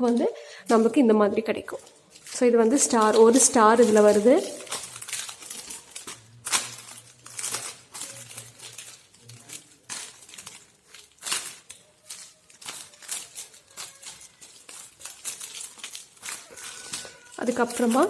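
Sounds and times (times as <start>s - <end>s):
packaging rustling and crinkling: 0.0s - 1.0s, 1.6s - 18.0s.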